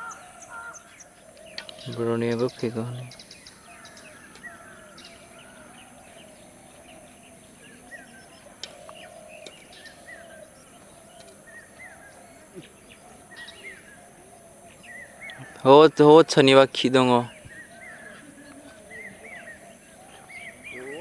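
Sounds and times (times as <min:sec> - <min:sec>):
birds chirping: 0:00.0 - 0:21.0
faint steady hiss: 0:00.0 - 0:21.0.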